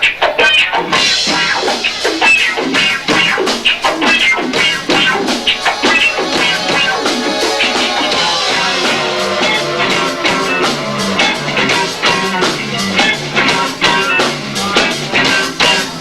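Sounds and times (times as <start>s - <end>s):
drum kits pounding: 0.0s - 16.0s
live rock band playing: 0.0s - 16.0s.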